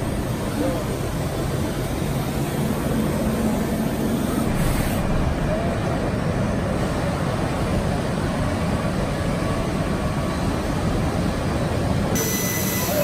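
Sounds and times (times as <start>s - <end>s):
busy trade show hall din: 0.0s - 13.0s
machining centre running: 0.0s - 13.0s.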